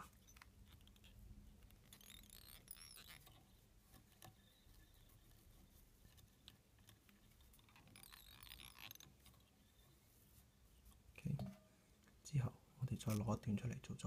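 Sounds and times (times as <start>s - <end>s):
faint rustling and scratching of fibres: 0.0s - 14.0s.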